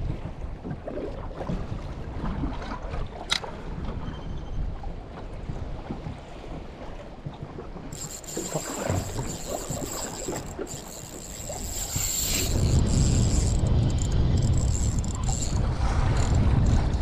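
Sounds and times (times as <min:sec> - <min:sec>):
sea around a boat: 0:00.0 - 0:17.0
wind buffeting microphone: 0:00.0 - 0:17.0.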